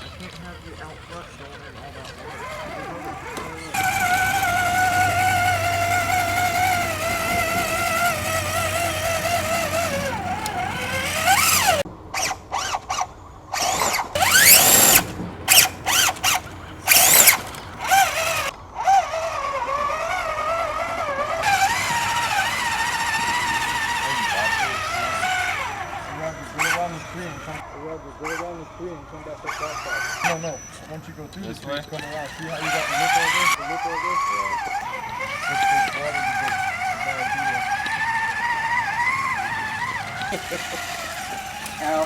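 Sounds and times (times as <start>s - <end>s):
rc truck electric motor whining: 0.0s - 42.0s.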